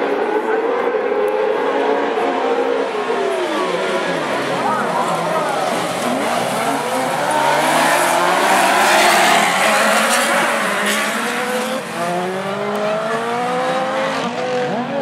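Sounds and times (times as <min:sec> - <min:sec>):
racing buggy engines revving: 0:00.0 - 0:15.0.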